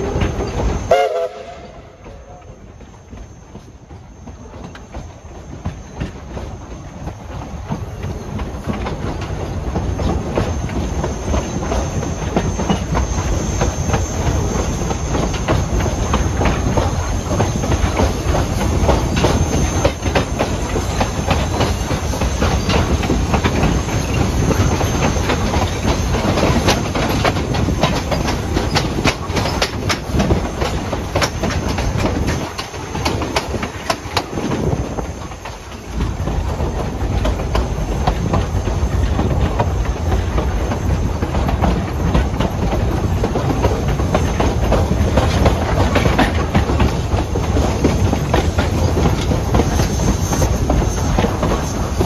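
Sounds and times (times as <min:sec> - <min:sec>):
train car rumble: 0:00.0 - 0:52.0.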